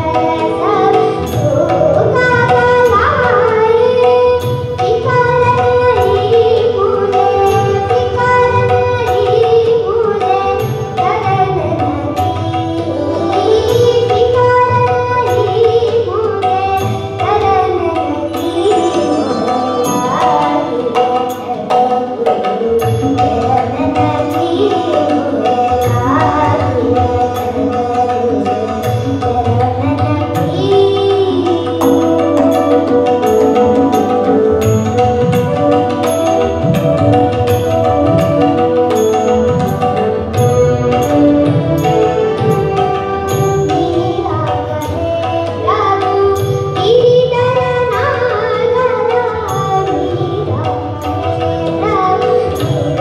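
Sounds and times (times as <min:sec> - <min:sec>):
boy singing: 0:00.0 - 0:53.0
harmonium: 0:00.0 - 0:53.0
tabla rhythm: 0:00.0 - 0:53.0.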